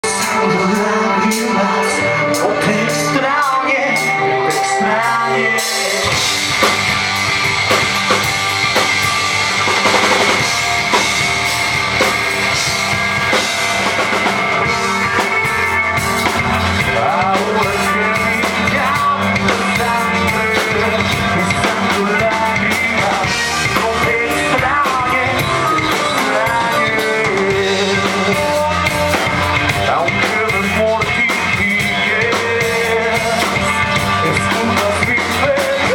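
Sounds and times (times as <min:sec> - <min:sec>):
bass guitar: 0:00.0 - 0:35.9
drum kit: 0:00.0 - 0:35.9
electric guitars: 0:00.0 - 0:35.9.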